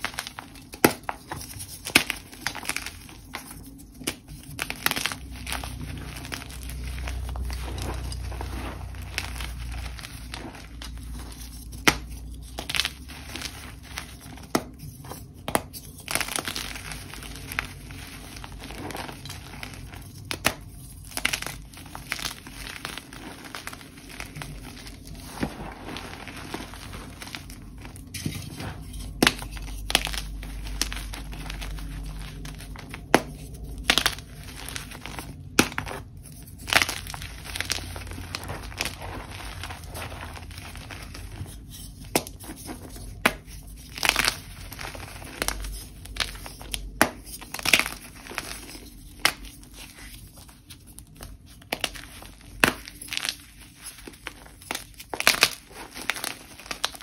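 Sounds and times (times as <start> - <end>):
chalk crumbling in hands: 0.0 - 57.0.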